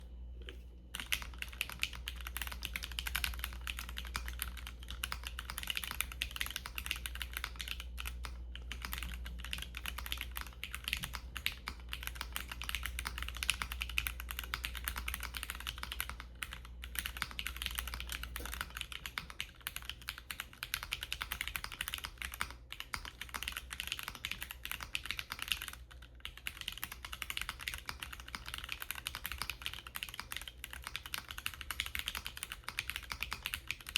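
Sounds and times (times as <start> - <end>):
fast typing on mechanical keyboard: 1.0 - 33.9.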